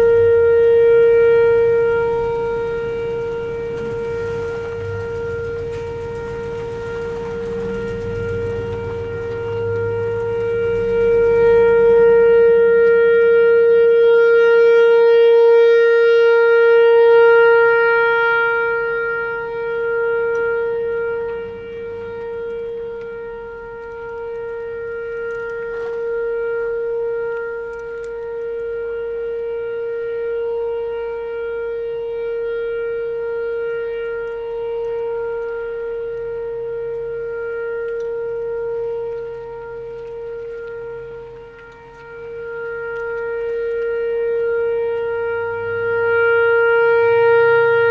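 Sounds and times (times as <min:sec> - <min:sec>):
steady warning siren: 0:00.0 - 0:47.9.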